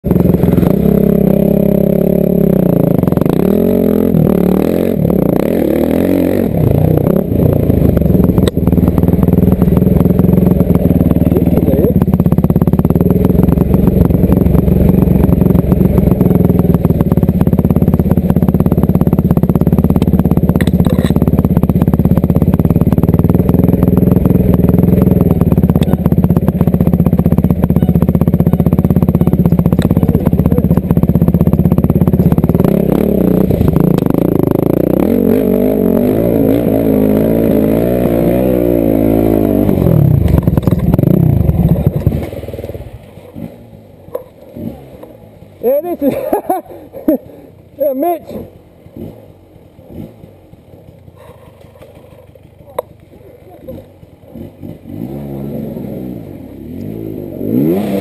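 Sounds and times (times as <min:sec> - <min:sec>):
dirt bike engine riding steadily: 0:00.0 - 0:58.0
dirt bike engines revving: 0:00.0 - 0:58.0.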